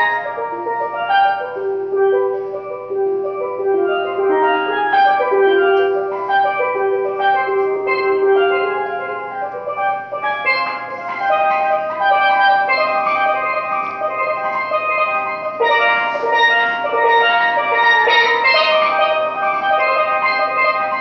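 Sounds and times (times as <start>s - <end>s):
steelpan melody: 0.0s - 21.0s.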